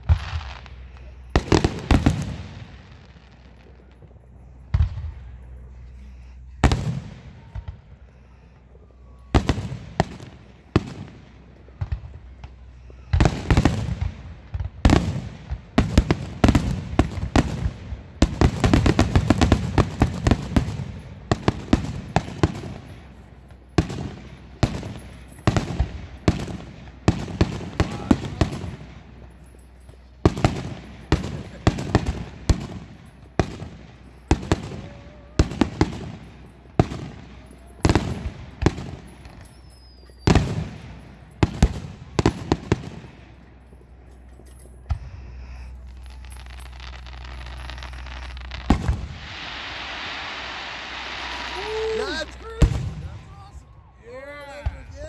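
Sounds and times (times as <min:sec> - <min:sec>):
fireworks booming: 0:00.0 - 0:54.0
fireworks crackling: 0:00.0 - 0:55.0.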